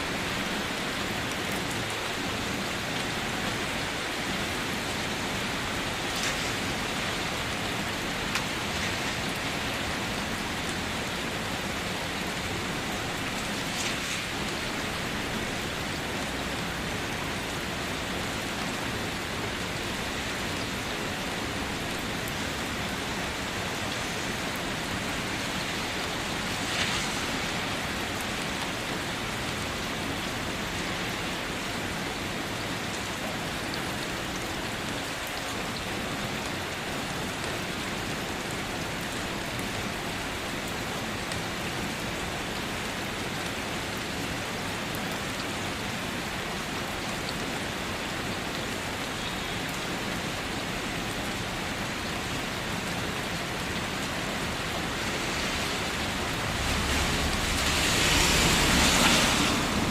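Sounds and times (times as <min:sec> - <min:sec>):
rain spatter: 0:00.0 - 0:32.1, 0:38.3 - 0:59.9
steady rain hiss: 0:00.0 - 0:59.9.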